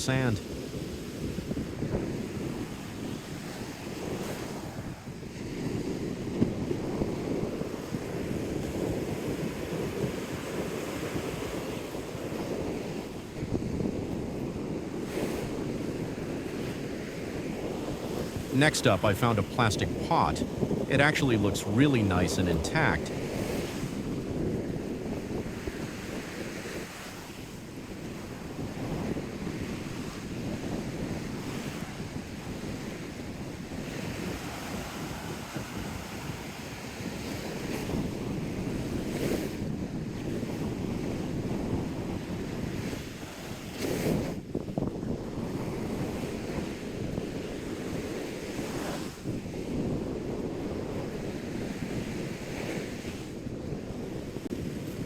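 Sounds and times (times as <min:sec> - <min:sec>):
ocean surf on beach: 0:00.0 - 0:55.0
wind buffeting microphone: 0:00.0 - 0:55.0.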